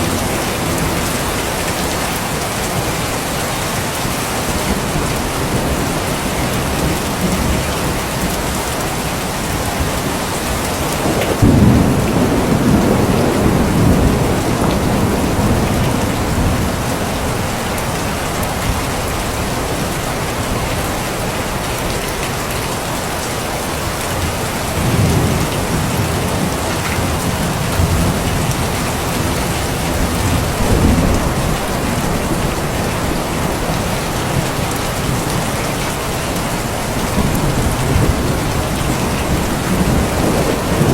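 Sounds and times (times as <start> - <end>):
thunder rumbling: 0.0 - 21.0, 24.2 - 40.9
heavy rain falling: 0.0 - 40.9.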